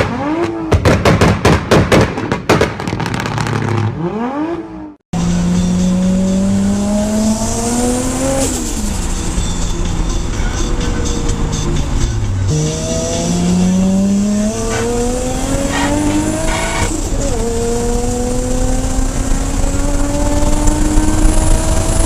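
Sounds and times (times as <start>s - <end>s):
car engine revving with bangs: 0.0s - 9.8s, 11.2s - 22.0s.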